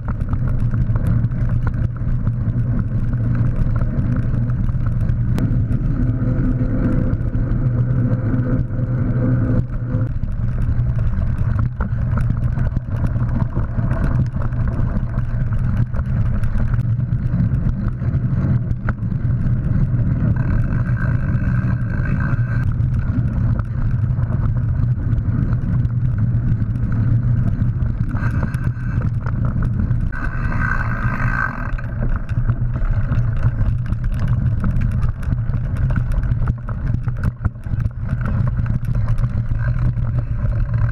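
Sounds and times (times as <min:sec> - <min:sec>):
bike rattling over bumps: 0:00.0 - 0:40.9
rumble of tyres and wind: 0:00.0 - 0:40.9.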